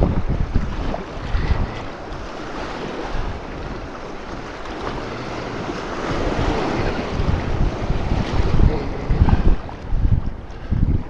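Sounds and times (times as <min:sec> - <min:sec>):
river water rushing and splashing: 0:00.0 - 0:11.0
wind buffeting microphone: 0:00.0 - 0:11.0.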